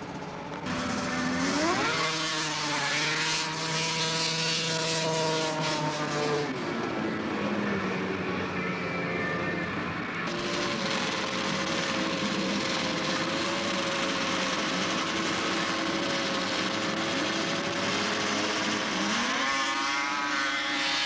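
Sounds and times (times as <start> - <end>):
snowmobile engine revving: 0.4 - 21.0.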